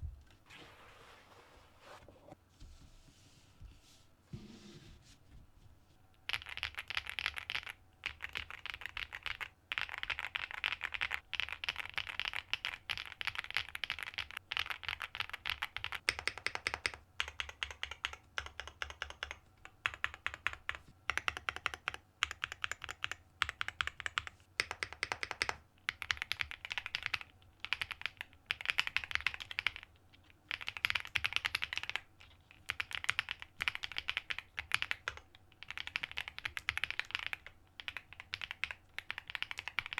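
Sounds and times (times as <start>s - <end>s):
mechanical keyboard typing: 6.3s - 29.9s, 30.5s - 39.9s.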